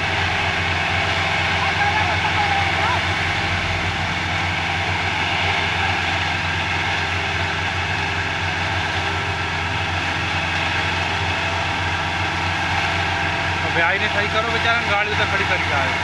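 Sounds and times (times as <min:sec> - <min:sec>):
concrete mixer engine running: 0:00.0 - 0:16.0.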